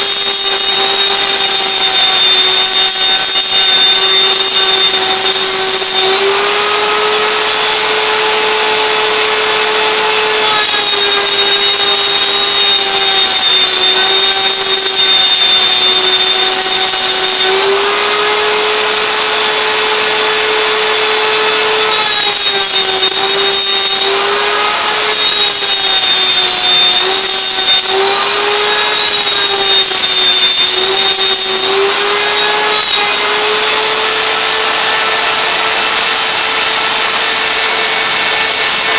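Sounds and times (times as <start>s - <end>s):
router spindle whine and cutting hiss: 0.0s - 38.9s.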